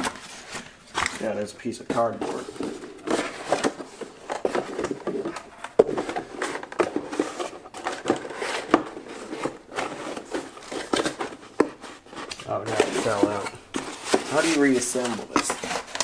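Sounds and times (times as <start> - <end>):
cardboard rustling and scraping: 0.0 - 16.0.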